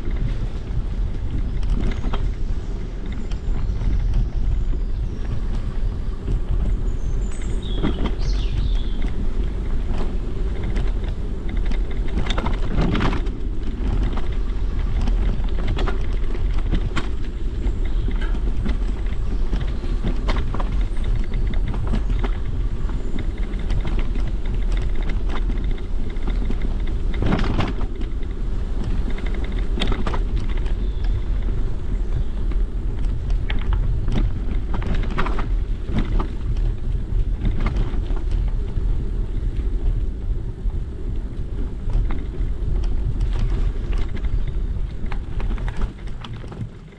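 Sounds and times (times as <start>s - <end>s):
bicycle knocking on bumps: 0.0s - 46.9s
bicycle rumbling on trail: 0.0s - 46.9s
wind buffeting microphone: 0.0s - 46.9s.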